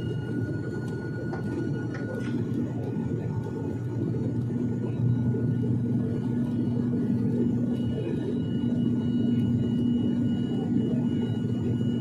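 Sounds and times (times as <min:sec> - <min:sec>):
turboprop engine drone in cabin: 0:00.0 - 0:12.0.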